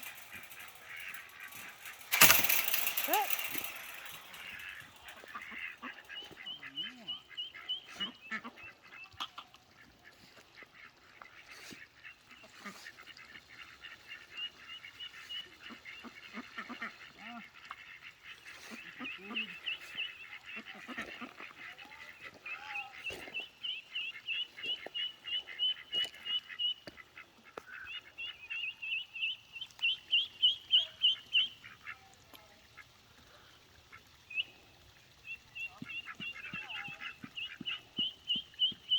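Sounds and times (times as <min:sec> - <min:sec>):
ducklings peeping: 0:00.0 - 0:38.9.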